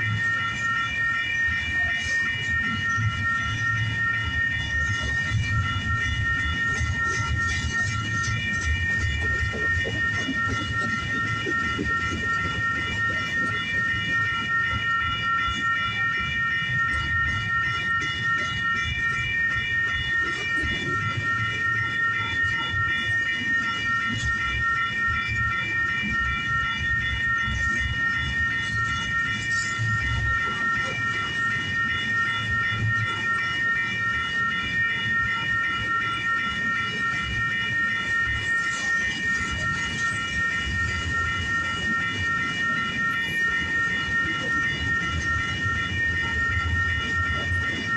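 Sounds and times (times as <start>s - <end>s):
rapidly pulsing ringing bell: 0.0s - 47.9s.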